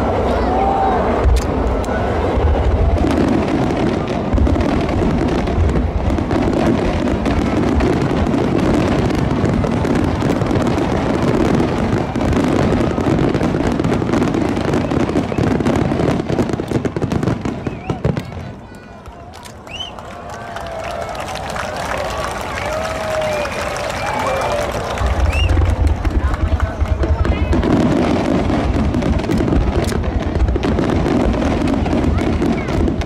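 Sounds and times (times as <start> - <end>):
fireworks bursts and crackling: 0.0 - 33.0.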